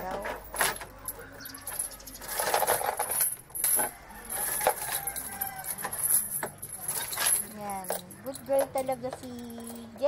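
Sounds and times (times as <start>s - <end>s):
metal chain leash jangling: 0.0s - 10.0s.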